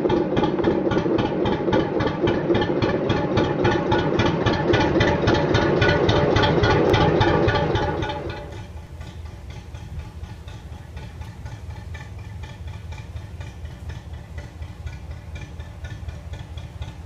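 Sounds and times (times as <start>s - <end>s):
diesel engine throbbing: 0.0s - 17.0s.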